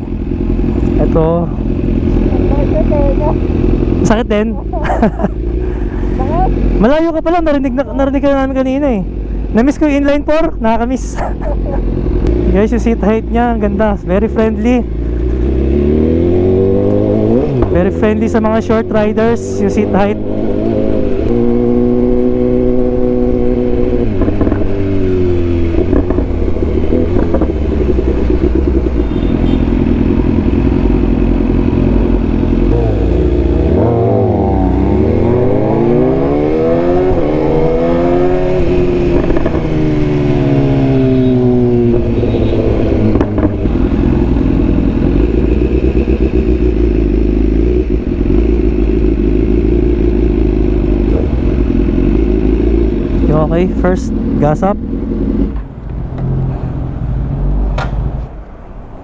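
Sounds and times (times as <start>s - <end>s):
motorcycle engine running: 0.0s - 56.4s.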